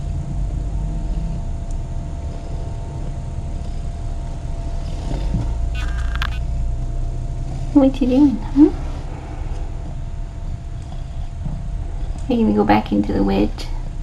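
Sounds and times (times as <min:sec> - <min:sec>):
faint hum: 0:00.0 - 0:14.0
low rumble: 0:00.0 - 0:14.0.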